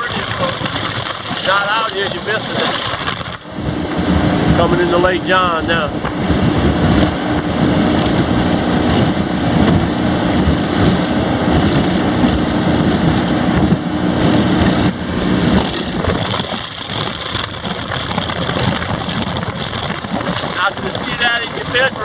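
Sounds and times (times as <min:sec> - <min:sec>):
outboard motor running: 0:00.0 - 0:22.0
wind buffeting microphone: 0:00.0 - 0:22.0.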